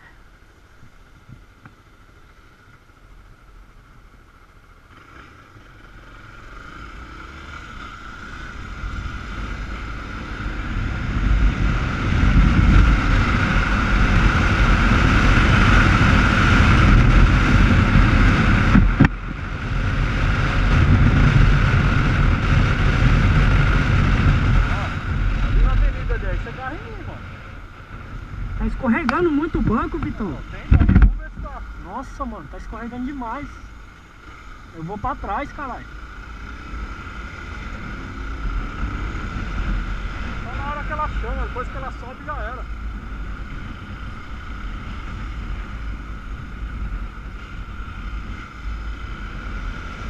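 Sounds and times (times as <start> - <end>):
motorcycle accelerating: 1.0 - 50.0
wind rushing over microphone: 8.1 - 50.0.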